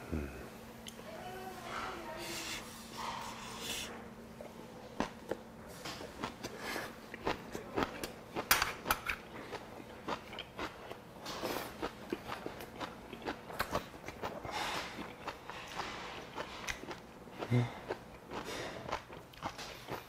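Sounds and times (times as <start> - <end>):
person chewing food: 3.0 - 20.0.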